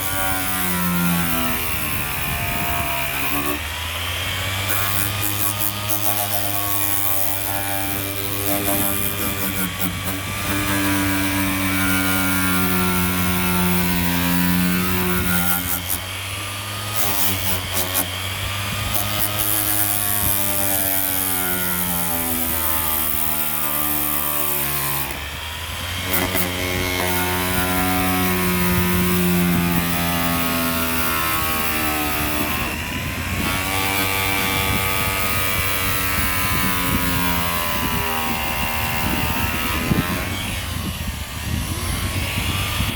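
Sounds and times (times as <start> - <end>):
power sander on metal: 0.0 - 42.9.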